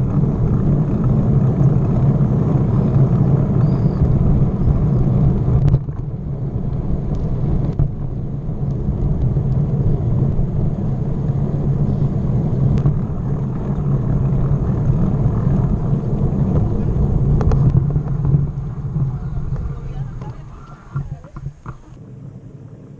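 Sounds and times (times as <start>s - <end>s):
wind on microphone: 0.0s - 22.0s
bicycle road noise: 0.0s - 22.9s.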